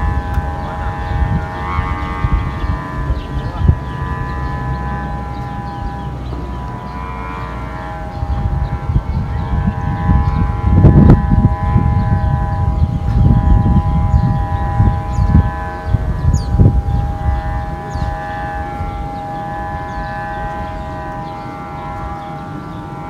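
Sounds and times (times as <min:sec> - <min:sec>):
kite hummer droning: 0:00.0 - 0:23.0
wind buffeting microphone: 0:00.0 - 0:23.0.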